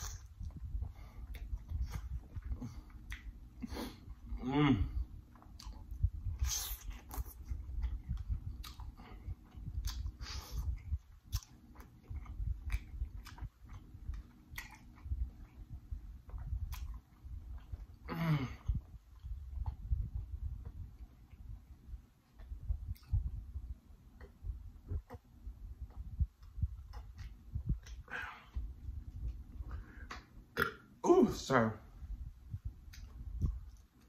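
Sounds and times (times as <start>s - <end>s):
wet chewing mouth sounds: 0.0s - 30.9s, 32.2s - 34.0s.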